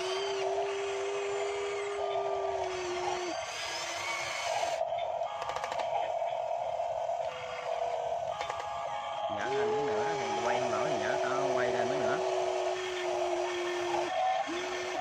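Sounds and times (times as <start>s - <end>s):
lower motor whine: 0.0s - 5.6s, 6.2s - 15.0s
electric motors whining: 0.0s - 15.0s.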